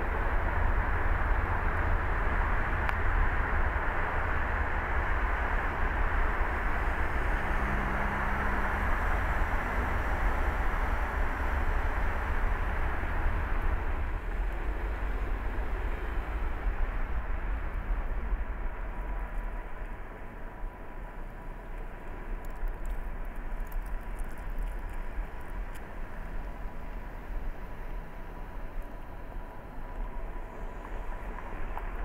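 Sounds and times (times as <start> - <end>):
car engine rumble: 0.0 - 32.0
tyre road noise: 0.0 - 32.0.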